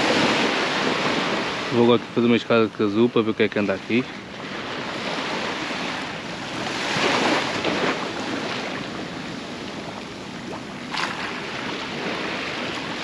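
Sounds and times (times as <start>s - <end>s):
sea surf breaking on beach: 0.0s - 13.0s.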